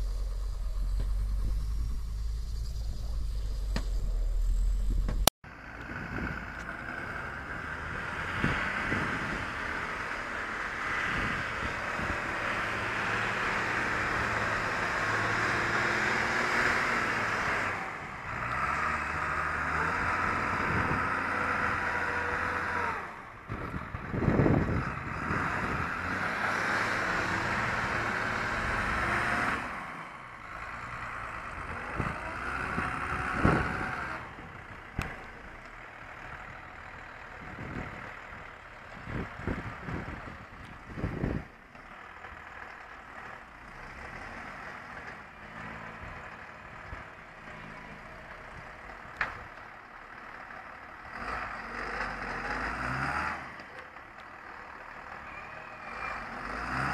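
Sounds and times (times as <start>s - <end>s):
vehicle engines running: 0.0s - 56.9s.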